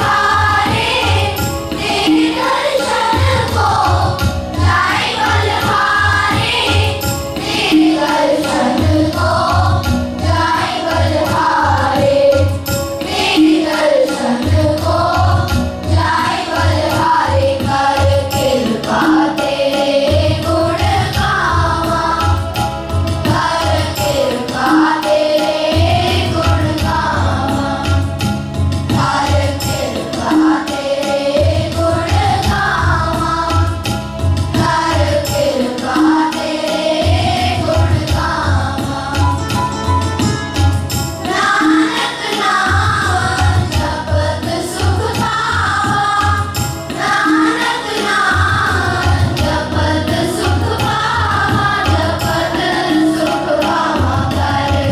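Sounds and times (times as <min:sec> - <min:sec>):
group singing a hymn: 0:00.0 - 0:39.8, 0:41.2 - 0:54.9
drum beat: 0:00.0 - 0:54.9.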